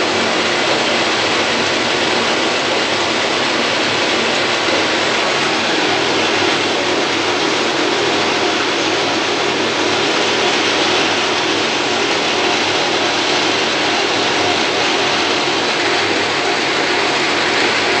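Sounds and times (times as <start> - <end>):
metal lathe running: 0.0 - 18.0.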